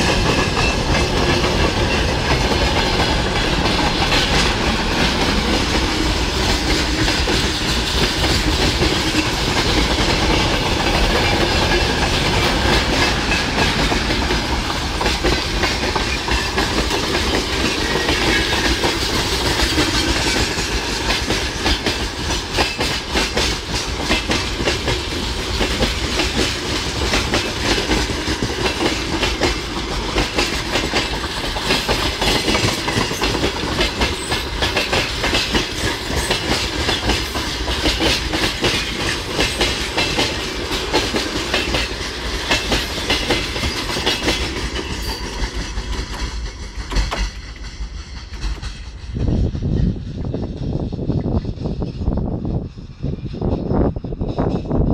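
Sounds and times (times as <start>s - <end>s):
freight train wheels clattering: 0.0s - 54.9s.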